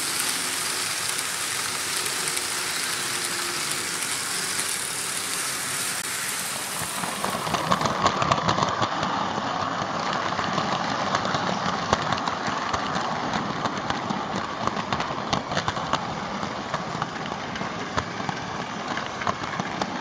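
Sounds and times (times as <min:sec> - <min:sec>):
model trains whirring on track: 0:00.0 - 0:20.0
rapid track clicks: 0:00.0 - 0:20.0.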